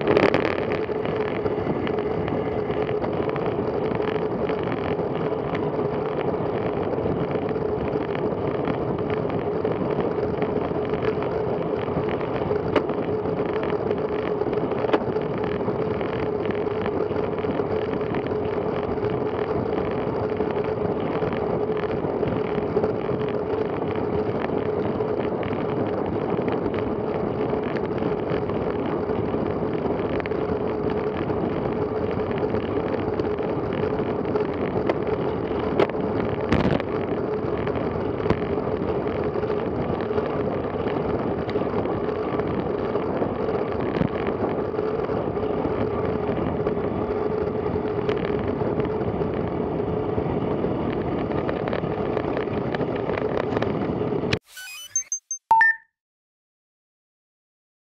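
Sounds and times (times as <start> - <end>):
wind rushing on microphone: 0.0 - 54.4
road noise: 0.0 - 54.5.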